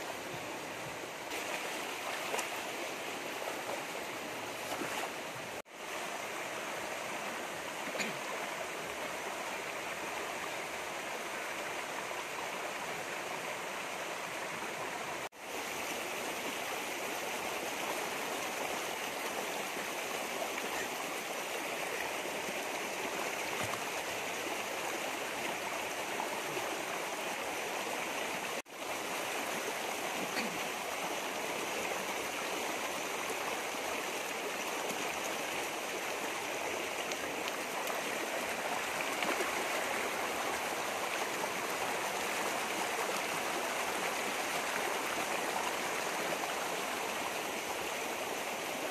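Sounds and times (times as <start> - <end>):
stream running over rocks: 0.0 - 48.9.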